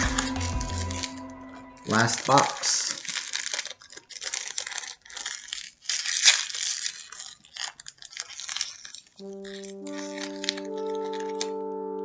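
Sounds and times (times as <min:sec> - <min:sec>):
packaging crinkling and tearing: 0:01.9 - 0:11.5.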